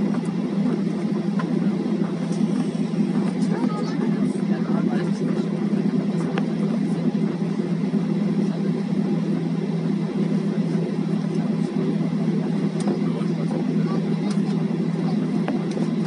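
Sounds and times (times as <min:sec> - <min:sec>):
airliner cabin jet engine noise: 0:00.0 - 0:16.0.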